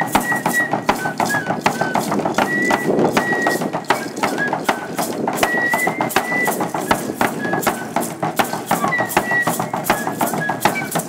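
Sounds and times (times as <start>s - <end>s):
quick drum beats: 0.0s - 11.0s.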